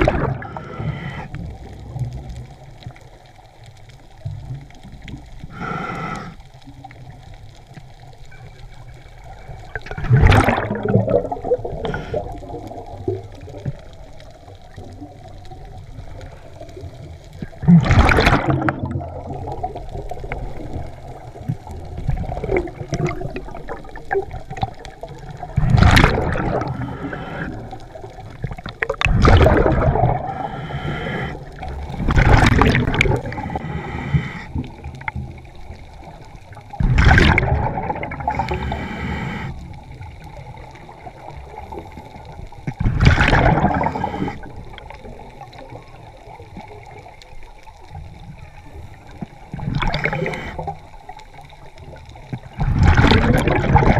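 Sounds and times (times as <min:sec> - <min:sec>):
exhaled bubbles rushing underwater: 0:00.0 - 0:53.9.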